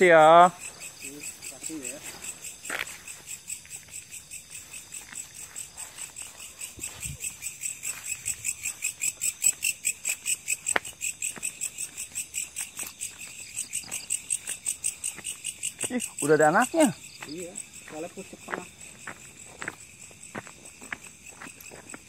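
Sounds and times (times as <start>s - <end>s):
night insects chirping: 0.0s - 22.0s.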